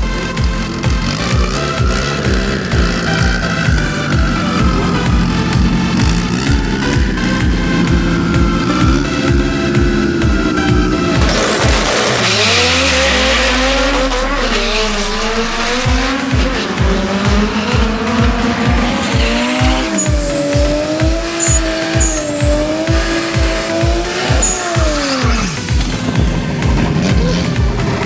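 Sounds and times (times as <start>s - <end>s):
electronic music with kick beat: 0.0s - 28.0s
tires squealing: 0.0s - 28.0s
car launching: 0.1s - 27.0s.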